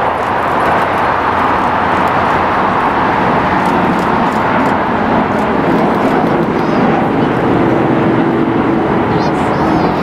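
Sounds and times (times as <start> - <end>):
jet engines at takeoff thrust: 0.0 - 10.0.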